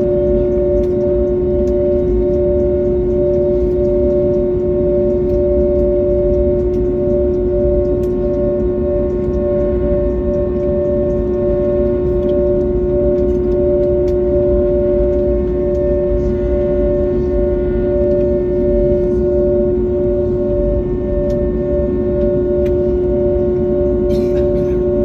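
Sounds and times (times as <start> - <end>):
airliner engines idling in cabin: 0.0 - 25.0.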